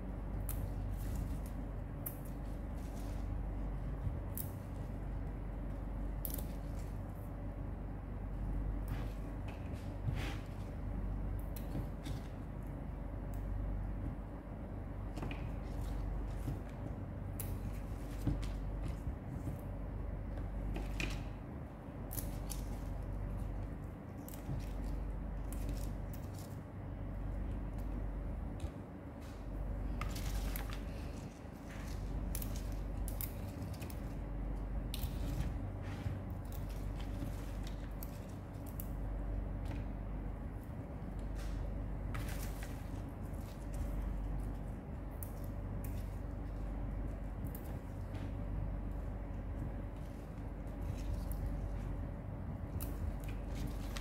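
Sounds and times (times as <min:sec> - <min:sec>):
steady low hum: 0:00.0 - 0:54.0
leaves and stems rustling: 0:00.3 - 0:54.0.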